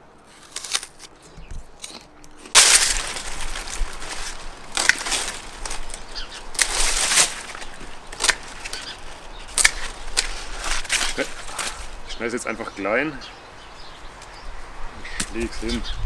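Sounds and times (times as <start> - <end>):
dry stalks rustling and crackling: 0.0 - 16.0.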